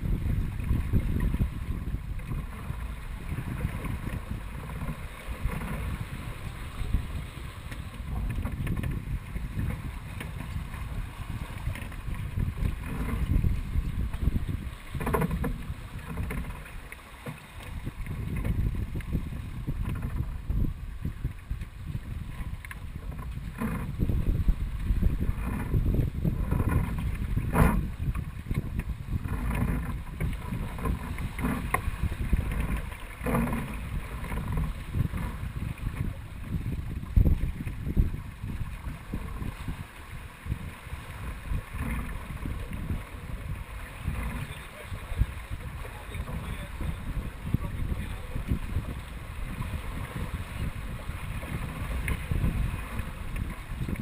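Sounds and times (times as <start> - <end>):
water rushing along hull: 0.0 - 54.0
wind buffeting microphone: 0.0 - 54.0.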